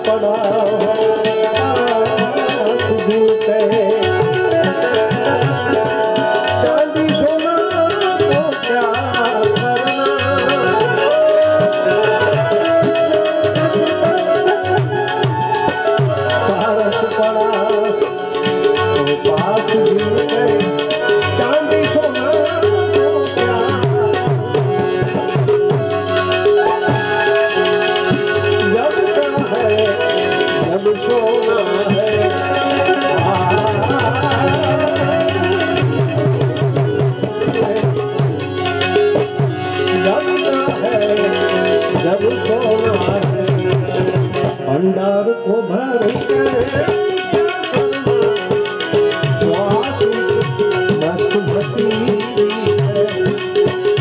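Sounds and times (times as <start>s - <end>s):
fast hand drum rhythm: 0.0s - 44.6s, 46.0s - 54.0s
harmonium folk melody: 0.0s - 54.0s.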